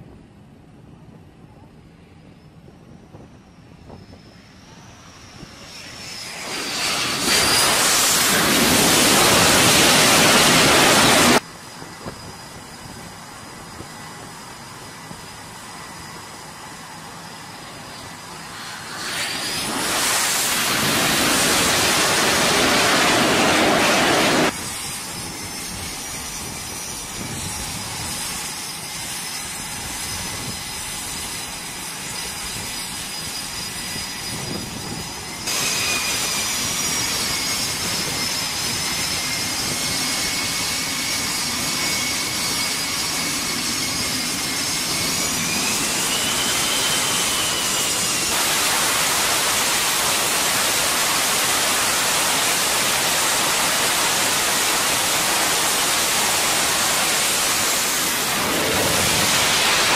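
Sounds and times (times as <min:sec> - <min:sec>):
taxiing jet engines whining: 0:00.0 - 0:59.9
jet landing: 0:02.2 - 0:59.9.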